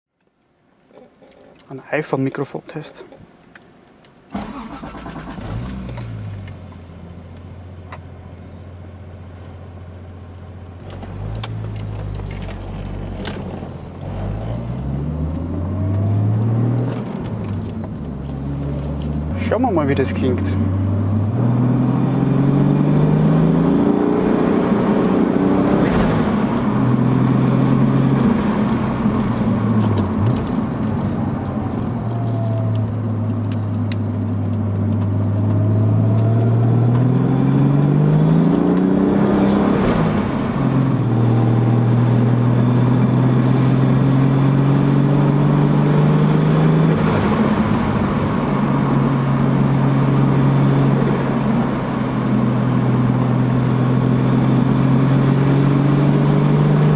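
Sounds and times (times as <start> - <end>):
car engine accelerating through gears: 9.6 - 56.9.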